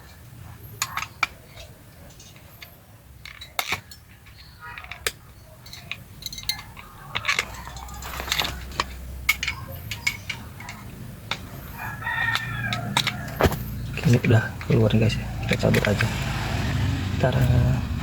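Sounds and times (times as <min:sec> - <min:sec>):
plastic and metal parts clicking: 0:00.8 - 0:14.8, 0:15.5 - 0:16.2.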